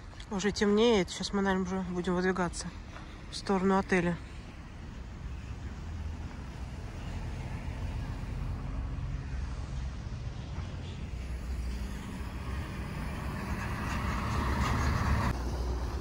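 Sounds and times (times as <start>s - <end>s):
road traffic: 0.0s - 16.0s
heavy diesel truck approaching: 2.7s - 16.0s.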